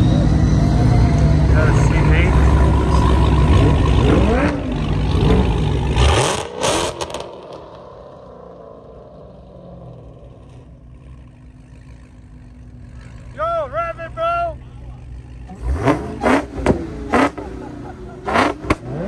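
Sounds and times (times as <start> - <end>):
car engines rumbling and revving: 0.0 - 19.0.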